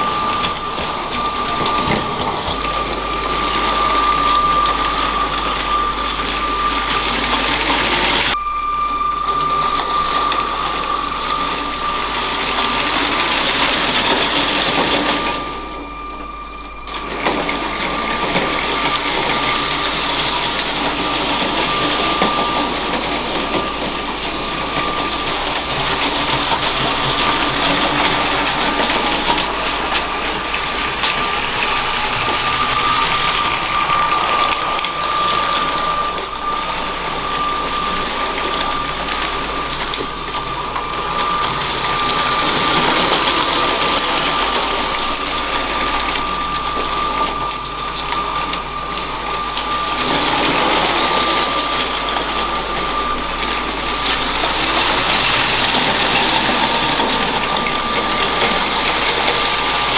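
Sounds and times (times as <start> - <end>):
electric motor whine: 0.0 - 59.9
toy train wheels rattling on track: 0.0 - 59.9.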